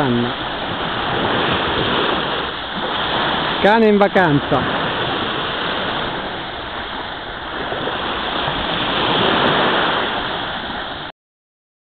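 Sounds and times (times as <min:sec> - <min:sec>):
sea surf: 0:00.0 - 0:11.1
wind: 0:00.0 - 0:11.1.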